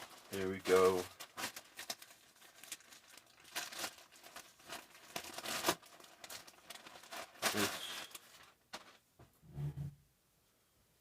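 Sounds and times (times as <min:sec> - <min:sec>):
plastic mailer bag crinkling: 0:00.0 - 0:09.0.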